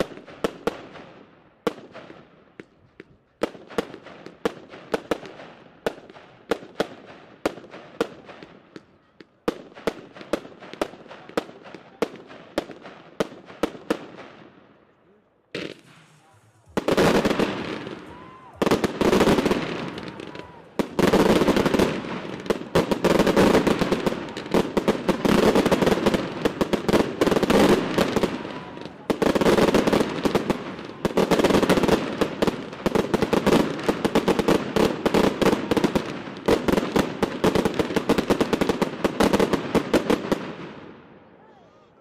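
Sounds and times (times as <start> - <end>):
fireworks crackling: 0.0 - 14.6, 15.5 - 41.0.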